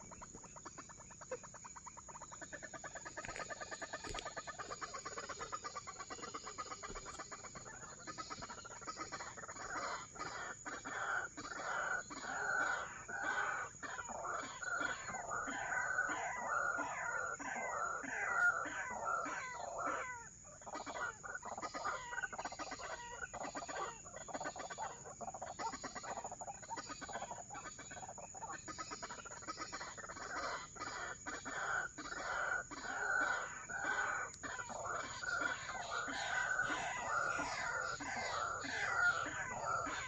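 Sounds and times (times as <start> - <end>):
waterhens clucking calls: 0.0 - 40.0.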